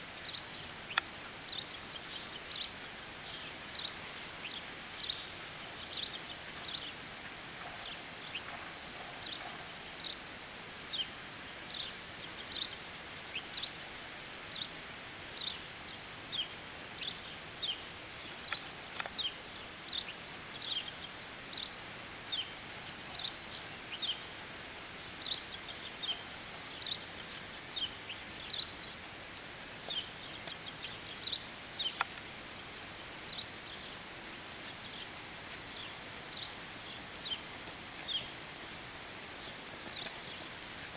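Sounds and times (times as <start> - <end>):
outdoor hiss: 0.0 - 40.9
bird chirping: 0.1 - 13.9, 14.5 - 40.9.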